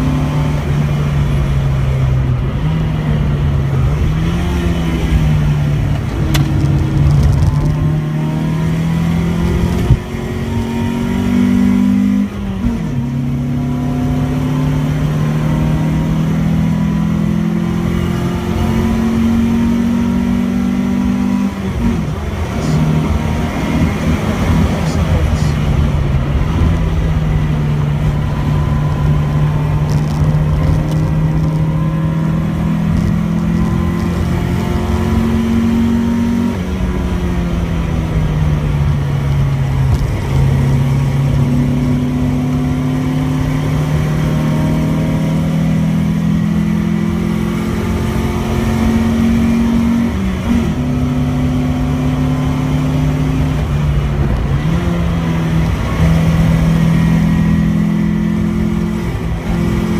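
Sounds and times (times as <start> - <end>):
car engine under hard load: 0.0 - 59.9
tyre and road noise: 0.0 - 59.9.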